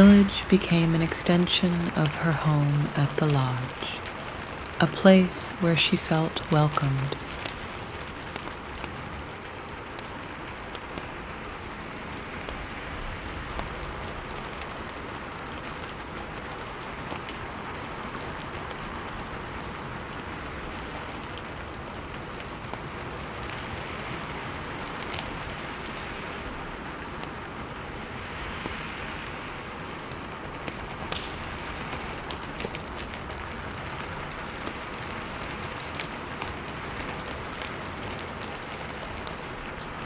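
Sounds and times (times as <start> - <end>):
fire crackling and popping: 0.0 - 40.0
steady rain: 0.0 - 40.0.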